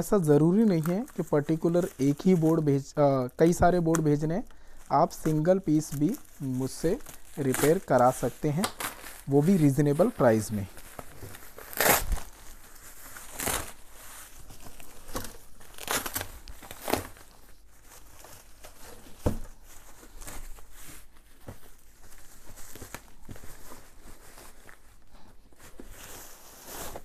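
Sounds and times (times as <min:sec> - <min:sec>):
bubble wrap crinkling and rustling: 0:00.0 - 0:27.0.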